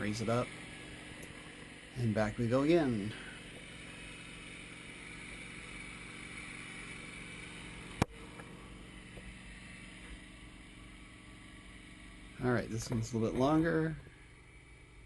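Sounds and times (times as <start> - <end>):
sawmill engine idling: 0.0 - 15.0.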